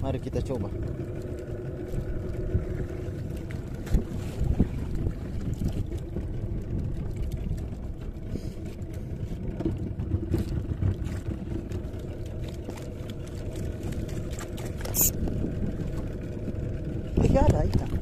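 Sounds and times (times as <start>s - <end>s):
boat engine rumbling: 0.0s - 18.0s.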